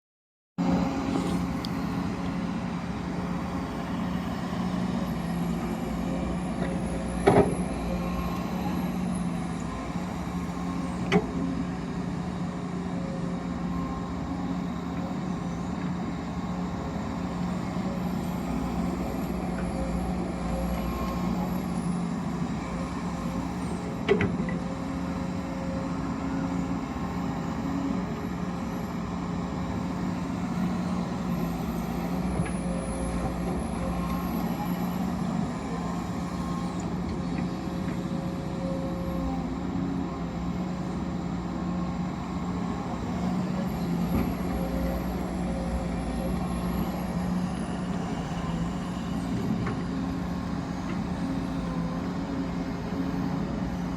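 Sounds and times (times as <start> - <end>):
heavy machinery engine drone: 0.6 - 53.9.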